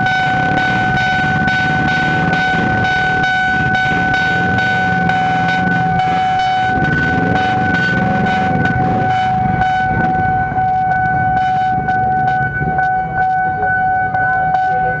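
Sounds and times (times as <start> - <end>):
electric train rumble: 0.0 - 15.0
level crossing alarm tone: 0.0 - 15.0.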